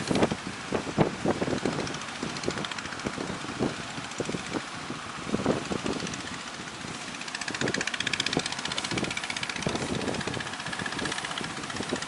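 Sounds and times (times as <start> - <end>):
boat engine running: 0.0 - 12.0
wind: 0.0 - 12.0.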